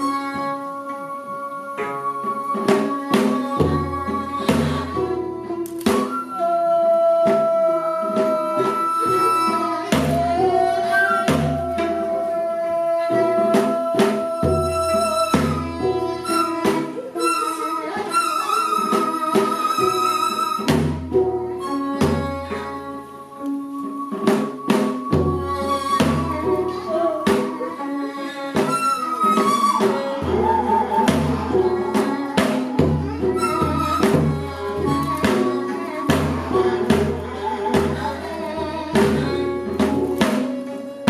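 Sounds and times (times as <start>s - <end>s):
long held flute notes: 0.0s - 41.0s
low drum beats: 1.7s - 17.4s, 19.1s - 41.0s.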